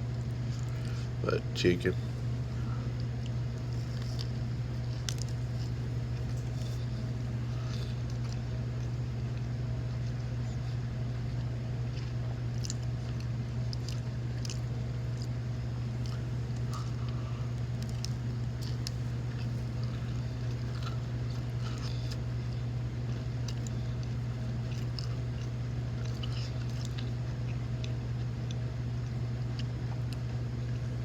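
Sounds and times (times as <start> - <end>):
steady low hum: 0.0 - 31.0
person chewing: 2.4 - 10.8, 11.8 - 30.4.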